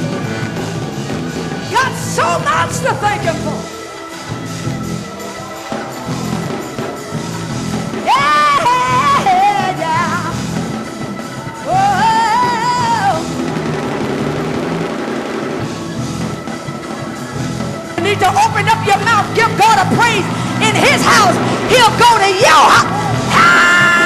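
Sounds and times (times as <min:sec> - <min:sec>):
church band playing gospel music: 0:00.0 - 0:24.0.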